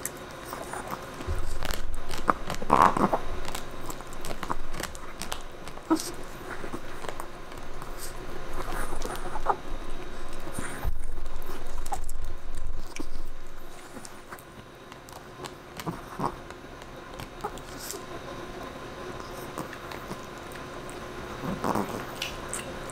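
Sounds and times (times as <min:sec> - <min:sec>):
dog chewing bone: 0:00.0 - 0:18.2, 0:19.1 - 0:22.8.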